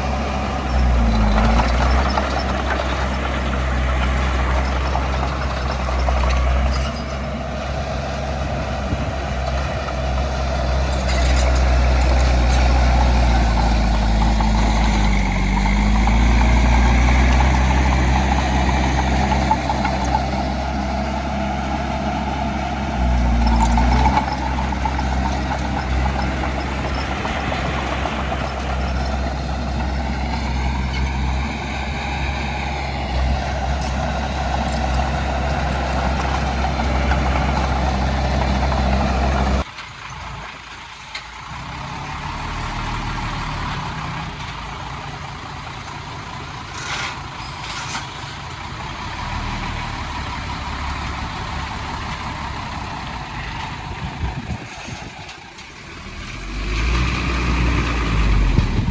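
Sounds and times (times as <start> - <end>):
heavy machinery diesel engines: 0.0 - 58.9.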